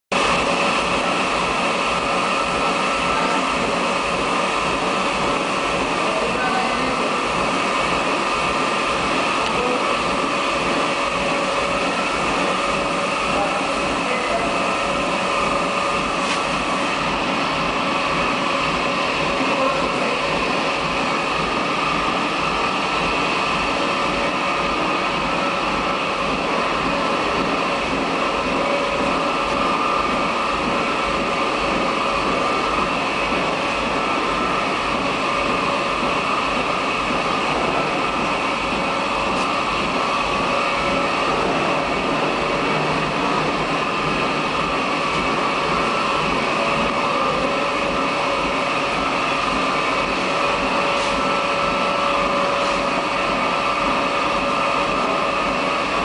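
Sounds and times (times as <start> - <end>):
machine running with whine: 0.1 - 56.0.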